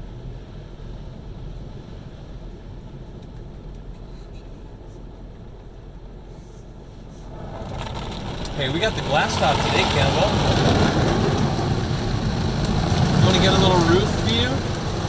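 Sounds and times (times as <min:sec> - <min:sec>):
car wash rumble: 0:00.0 - 0:15.0.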